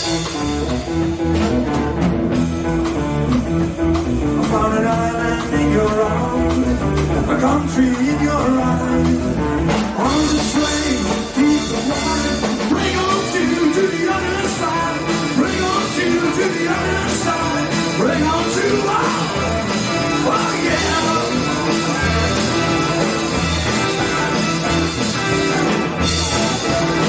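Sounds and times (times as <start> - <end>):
bass guitar: 0.0 - 27.0
drums: 0.0 - 27.0
keyboards: 0.0 - 27.0
lead guitar: 0.0 - 27.0.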